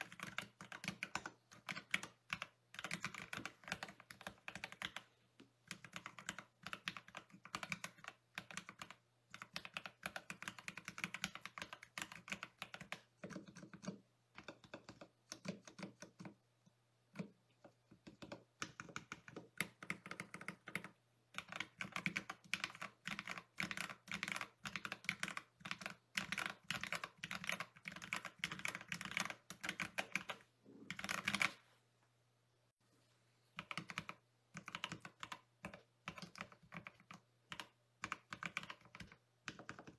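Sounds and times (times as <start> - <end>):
mechanical keyboard typing: 0.0 - 16.4, 17.1 - 31.6, 33.6 - 39.9.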